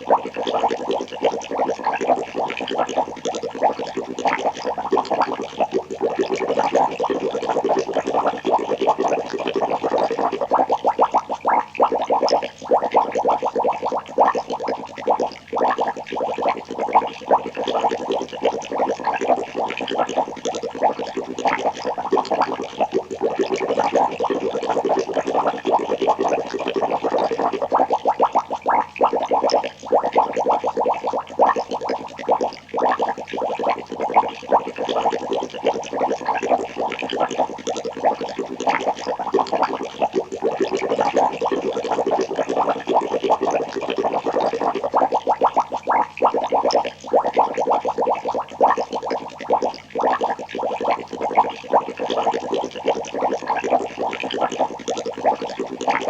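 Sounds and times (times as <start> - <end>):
liquid boiling and bubbling: 0.0 - 56.0.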